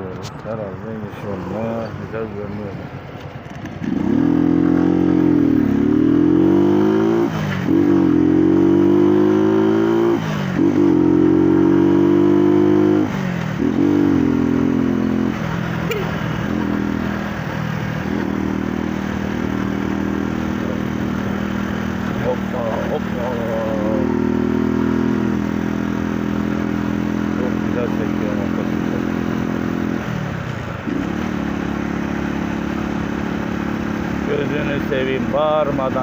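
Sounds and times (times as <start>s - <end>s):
motorcycle engine accelerating: 3.4s - 36.0s.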